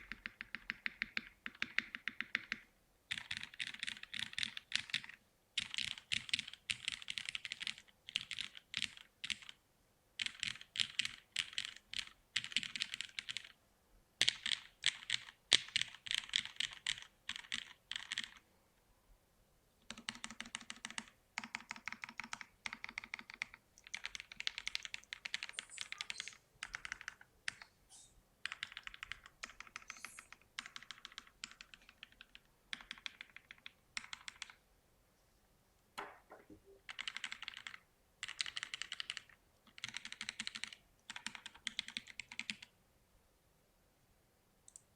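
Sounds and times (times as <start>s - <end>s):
mechanical keyboard typing: 0.0s - 9.6s, 10.2s - 13.6s, 14.2s - 18.4s, 19.9s - 27.7s, 28.4s - 34.6s, 36.8s - 42.7s.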